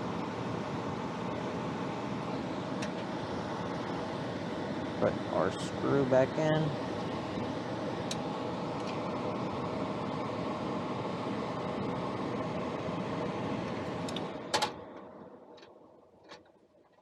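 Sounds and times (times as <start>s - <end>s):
furnace fan running: 0.0s - 17.0s.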